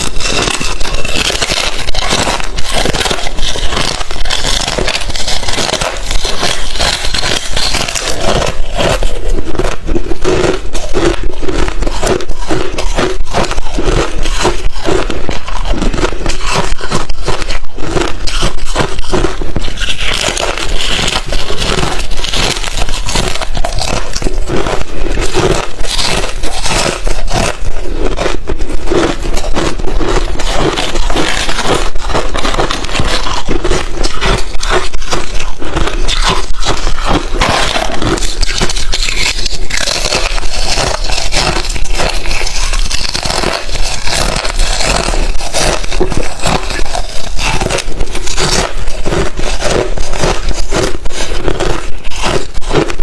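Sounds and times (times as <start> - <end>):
ice chips being chewed: 0.0 - 53.0.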